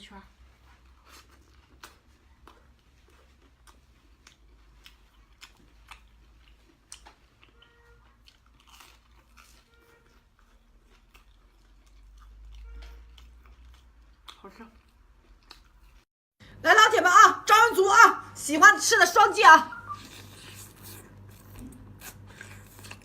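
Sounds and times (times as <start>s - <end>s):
crunchy chewing: 0.6s - 16.1s, 19.8s - 23.0s.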